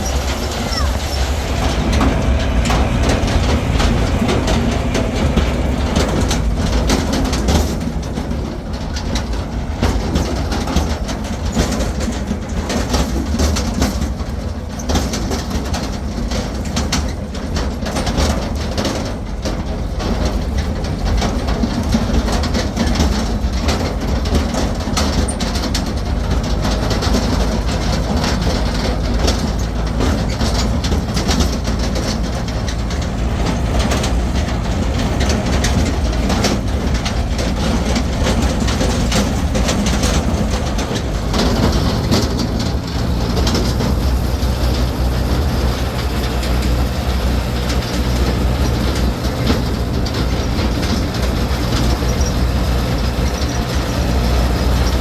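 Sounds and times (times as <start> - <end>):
engine humming: 0.0 - 55.0
rattling and clattering: 0.0 - 55.0.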